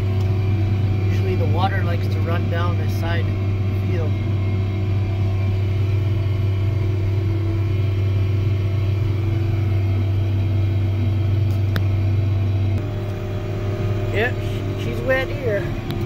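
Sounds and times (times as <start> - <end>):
tractor diesel engine droning: 0.0 - 16.0.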